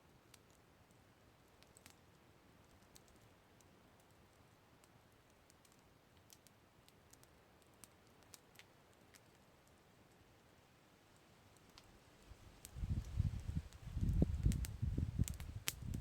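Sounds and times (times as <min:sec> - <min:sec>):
low fire hiss: 0:00.0 - 0:16.0
campfire crackling: 0:00.1 - 0:16.0.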